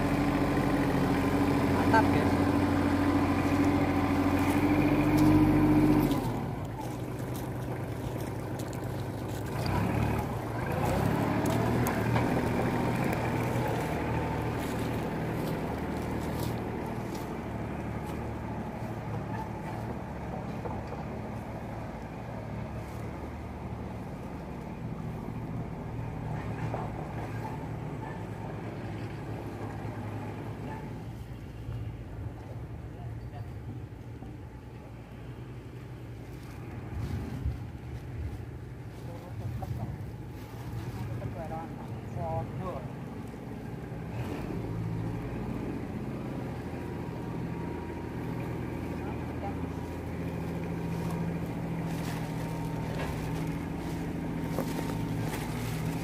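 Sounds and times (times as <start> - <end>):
motor engine humming: 0.0 - 56.0.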